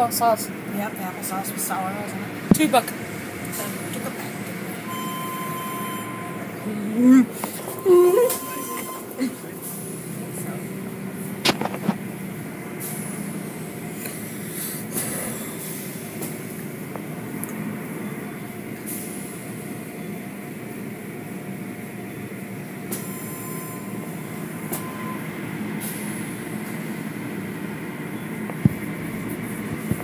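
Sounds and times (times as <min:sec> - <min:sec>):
car wash machinery rumble: 0:00.0 - 0:30.0.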